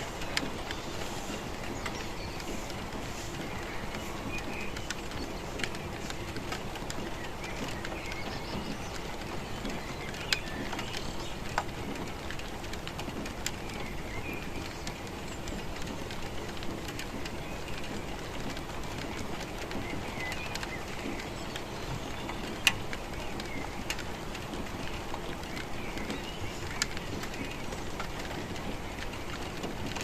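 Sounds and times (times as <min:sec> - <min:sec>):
heavy raindrops tapping: 0:00.0 - 0:30.0
steady rain falling: 0:00.0 - 0:30.0.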